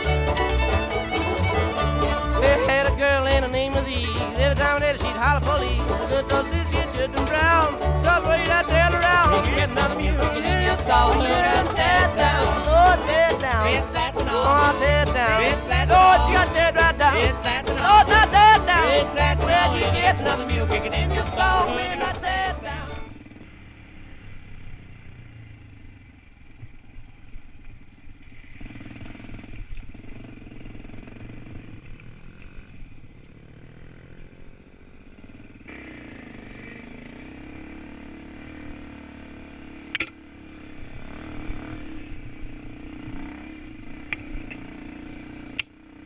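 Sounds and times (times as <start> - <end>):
dirt bike engine revving: 0.0 - 25.6, 28.3 - 46.0.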